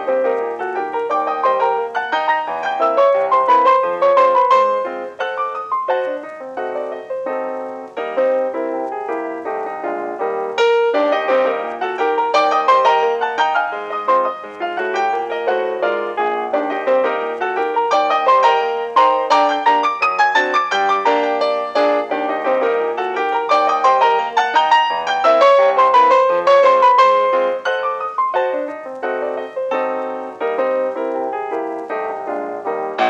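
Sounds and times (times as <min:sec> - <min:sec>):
ragtime piano music: 0:00.0 - 0:33.0.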